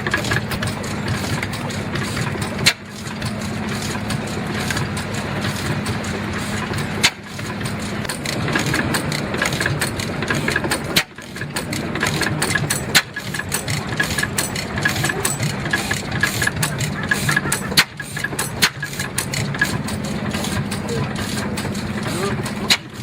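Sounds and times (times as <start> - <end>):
rapid mechanical clicks: 0.0 - 23.0
stationary engine running: 0.0 - 23.0.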